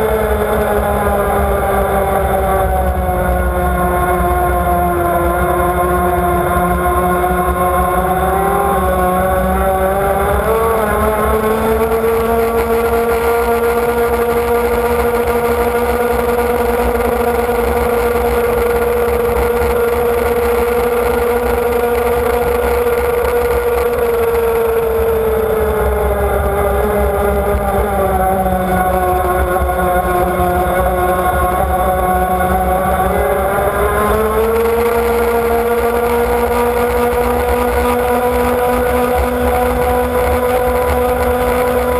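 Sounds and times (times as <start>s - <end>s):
high-revving model boat engine: 0.0s - 41.9s.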